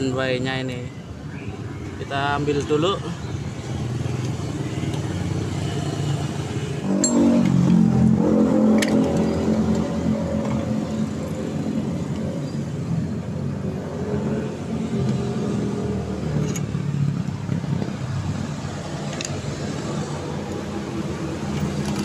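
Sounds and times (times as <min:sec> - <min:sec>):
vehicle engine humming: 0:01.6 - 0:22.0.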